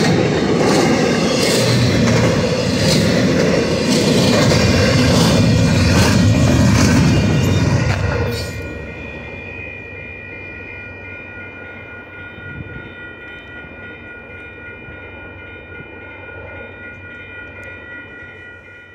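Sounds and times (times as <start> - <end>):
freight train rumble: 0.0 - 18.9
steady high-pitched tone: 0.0 - 18.9.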